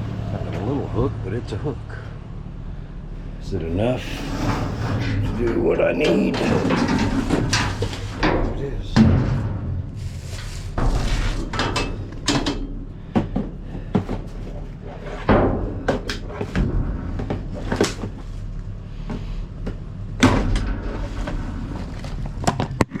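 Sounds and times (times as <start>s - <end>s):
trash rattling in a dumpster: 0.0s - 23.0s
heavy bangs: 2.2s - 23.0s.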